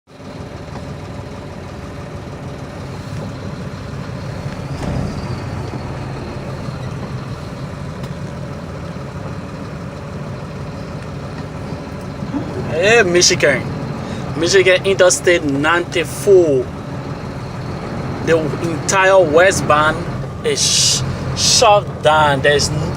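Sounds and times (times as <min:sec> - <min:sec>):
vehicle engine idling: 0:00.1 - 0:22.9.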